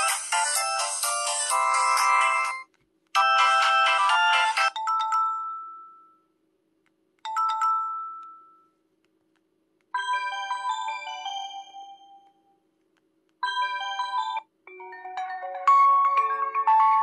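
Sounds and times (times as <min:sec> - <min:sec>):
phone ringtone melodies: 0:00.0 - 0:06.3, 0:07.3 - 0:08.8, 0:10.0 - 0:12.4, 0:13.4 - 0:17.0.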